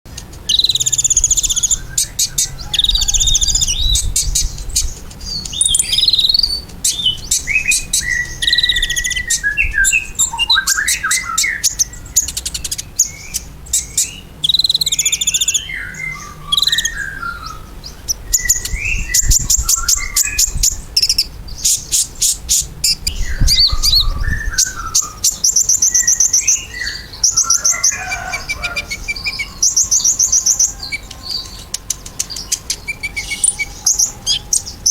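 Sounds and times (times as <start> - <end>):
sunbird singing trills: 0.4 - 34.9.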